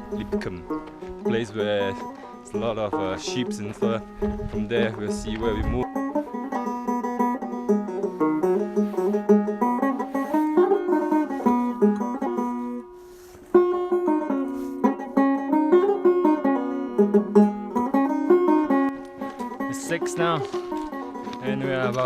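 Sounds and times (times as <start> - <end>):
plucked string instrument tune: 0.0 - 22.0.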